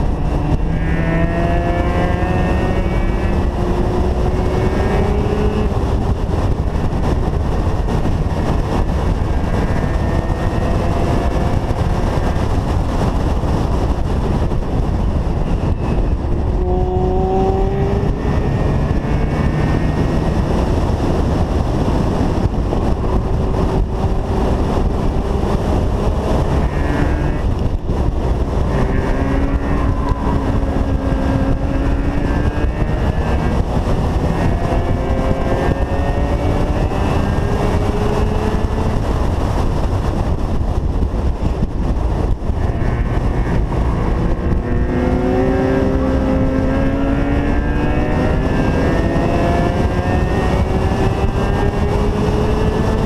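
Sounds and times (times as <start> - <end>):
rotary engine pulling hard: 0.0 - 53.0
wind and road rush: 0.0 - 53.0.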